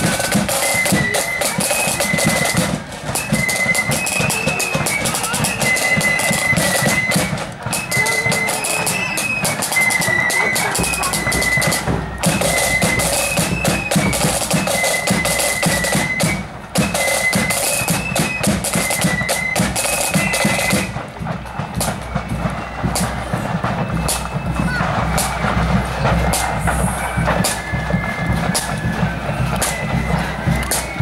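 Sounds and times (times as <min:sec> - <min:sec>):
fast snare drumming: 0:00.0 - 0:31.0
shrill flutes: 0:00.0 - 0:31.0.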